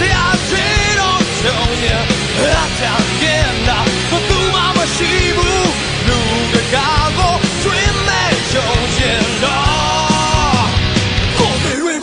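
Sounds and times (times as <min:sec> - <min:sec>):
drums: 0:00.0 - 0:12.0
rock song: 0:00.0 - 0:12.0.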